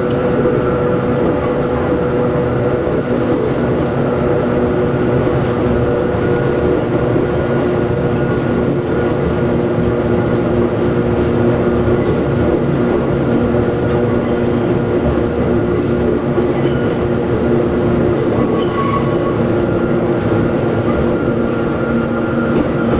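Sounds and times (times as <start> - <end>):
motors and gears humming: 0.0 - 22.9
train rolling noise: 0.0 - 22.9.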